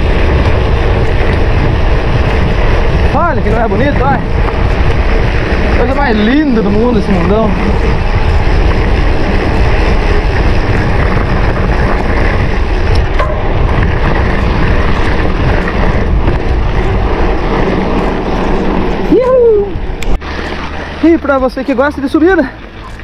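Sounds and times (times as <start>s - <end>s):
mountain bike ride rumble: 0.0s - 23.0s
wind buffeting microphone: 0.0s - 23.0s.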